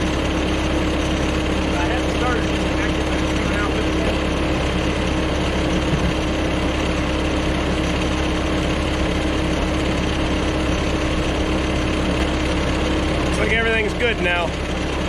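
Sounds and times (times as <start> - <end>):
machine engine idling: 0.0 - 15.0.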